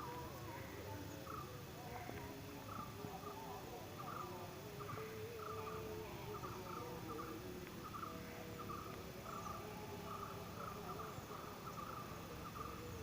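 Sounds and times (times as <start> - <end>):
insect chirping in trilled pulses: 0.0 - 13.0.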